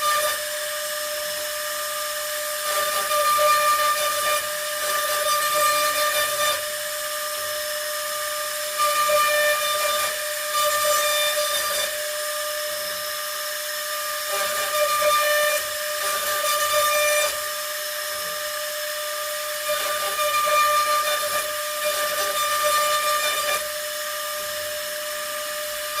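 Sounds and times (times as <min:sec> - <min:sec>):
router bit cutting panel: 0:00.0 - 0:26.0
router spindle high whine: 0:00.0 - 0:26.0.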